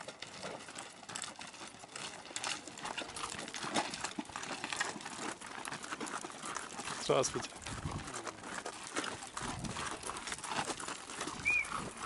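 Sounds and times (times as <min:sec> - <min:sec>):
crunching steps on gravel: 0:00.0 - 0:12.0
hooves clopping on stones: 0:00.0 - 0:12.0.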